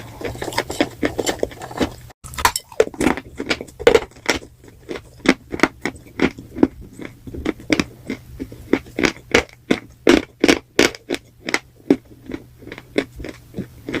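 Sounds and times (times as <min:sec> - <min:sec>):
chewing crunchy paste: 0:00.0 - 0:14.0.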